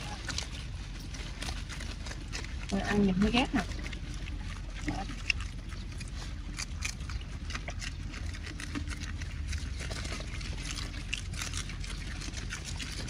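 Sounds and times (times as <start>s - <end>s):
pigs chewing crunchy stems: 0.0s - 13.0s.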